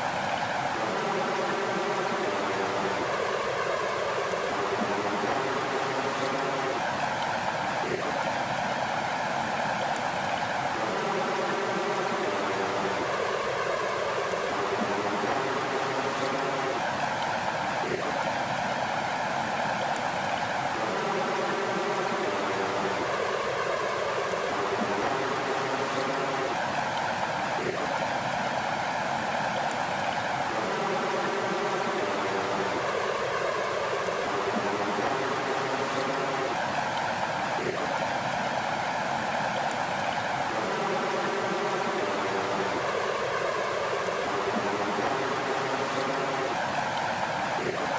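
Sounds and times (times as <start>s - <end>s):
rushing flowing water: 0.0s - 47.9s.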